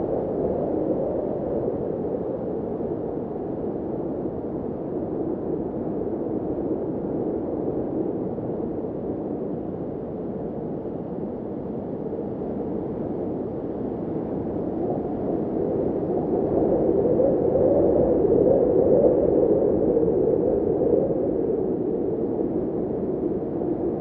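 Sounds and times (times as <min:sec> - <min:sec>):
howling blizzard wind: 0:00.0 - 0:24.0.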